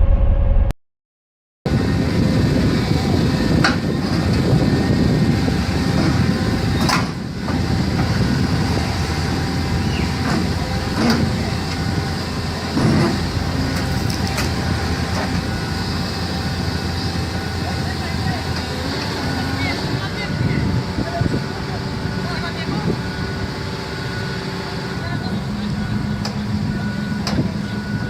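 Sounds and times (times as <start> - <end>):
heavy machine rumbling: 1.7 - 28.0.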